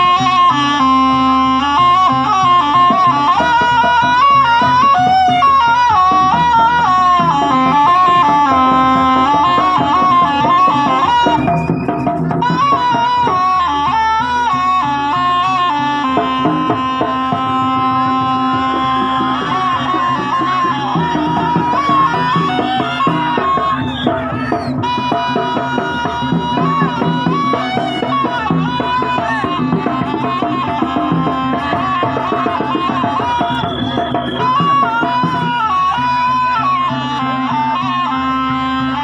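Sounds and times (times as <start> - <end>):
hand drums: 0.0 - 39.0
shrill reed trumpet melody: 0.0 - 39.0.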